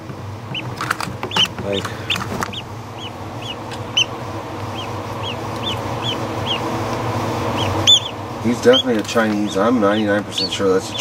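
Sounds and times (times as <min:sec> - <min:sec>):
steady low hum: 0:00.0 - 0:11.0
waterfowl chick peeping: 0:00.5 - 0:11.0.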